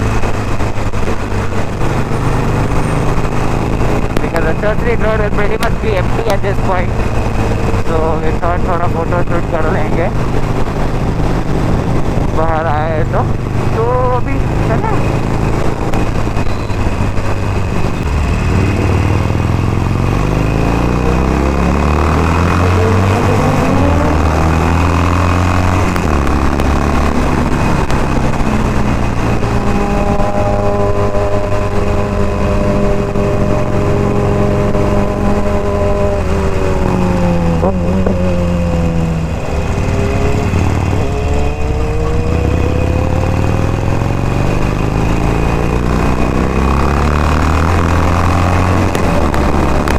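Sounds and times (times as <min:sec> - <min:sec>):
motorcycle engine shifting gears: 0:00.0 - 0:49.9.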